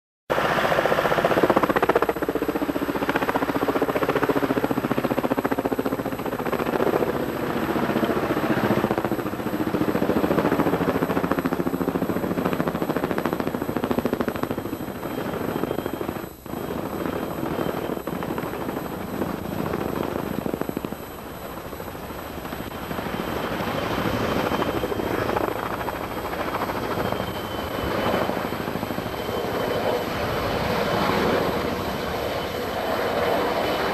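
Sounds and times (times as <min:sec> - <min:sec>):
helicopter rotor and engine: 0:00.3 - 0:33.9
faint high whine: 0:00.4 - 0:33.9.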